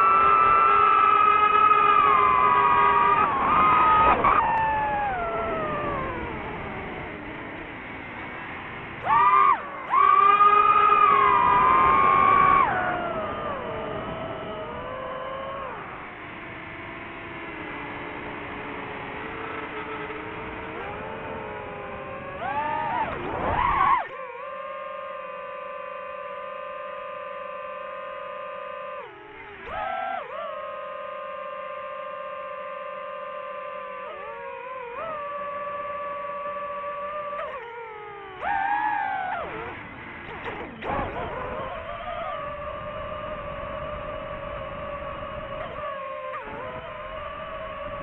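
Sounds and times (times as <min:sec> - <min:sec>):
drone propellers whining: 0:00.0 - 0:48.0.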